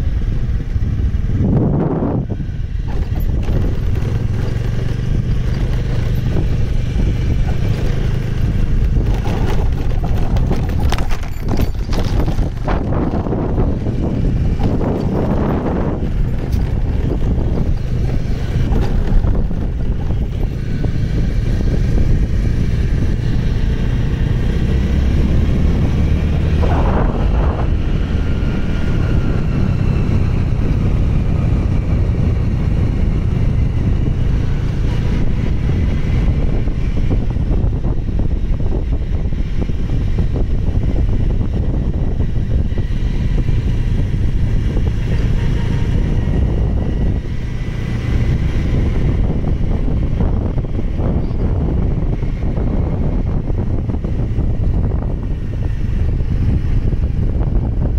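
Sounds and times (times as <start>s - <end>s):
tyres on paved road: 0.0s - 57.9s
vehicle engine running: 0.0s - 57.9s
wind rushing on microphone: 0.0s - 57.9s.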